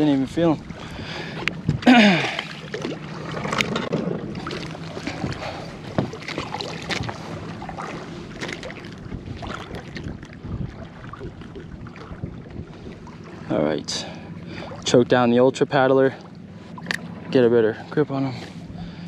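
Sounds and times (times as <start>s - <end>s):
water splashing: 0.0s - 15.4s.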